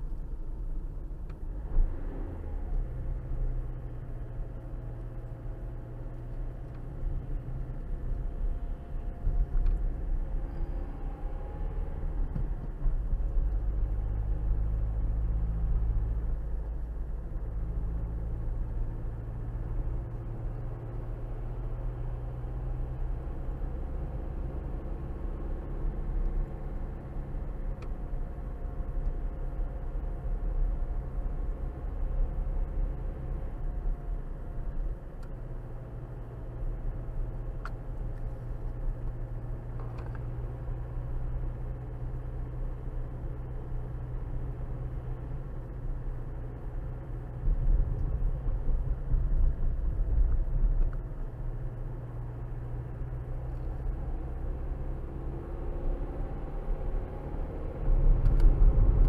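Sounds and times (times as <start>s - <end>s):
faint engine hum: 0.0s - 59.0s
road and engine rumble: 0.0s - 59.0s.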